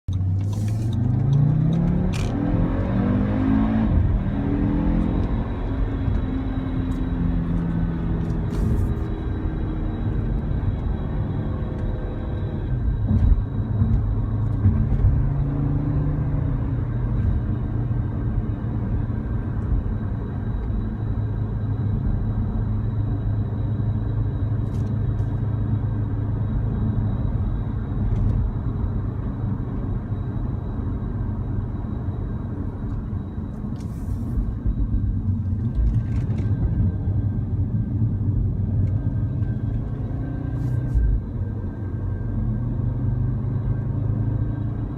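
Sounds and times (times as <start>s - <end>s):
car cabin low rumble: 0.1s - 2.9s, 3.8s - 44.9s.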